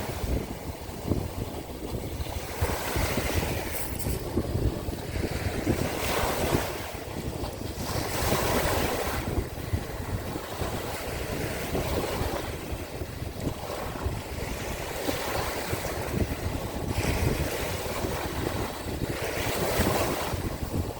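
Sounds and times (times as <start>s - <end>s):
waves breaking on shore: 0.0s - 20.9s
wind buffeting microphone: 0.0s - 20.9s.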